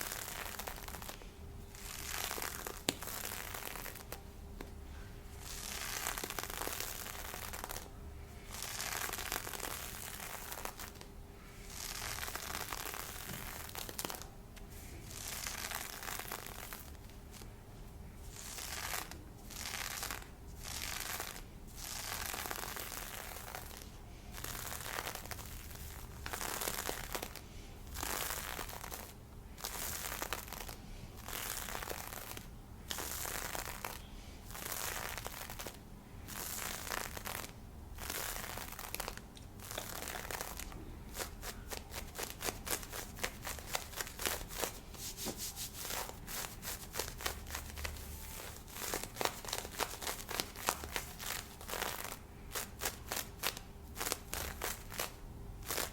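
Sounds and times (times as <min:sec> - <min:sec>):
stockings being scratched: 0:00.0 - 0:04.2, 0:05.4 - 0:14.3, 0:15.0 - 0:17.5, 0:18.3 - 0:55.9.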